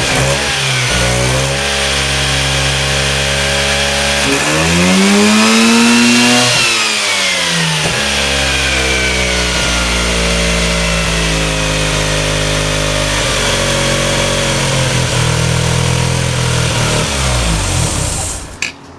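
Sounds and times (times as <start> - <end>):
car engine revving: 0.0 - 18.6.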